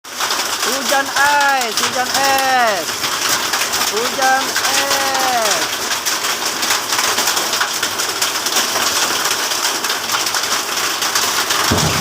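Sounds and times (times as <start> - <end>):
hail and heavy rain falling: 0.1 - 12.0.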